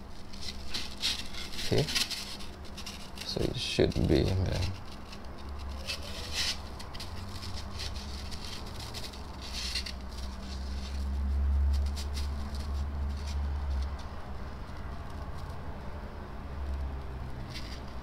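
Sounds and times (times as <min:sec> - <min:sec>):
paper rustling and scratching: 0:00.0 - 0:15.9, 0:16.7 - 0:18.0.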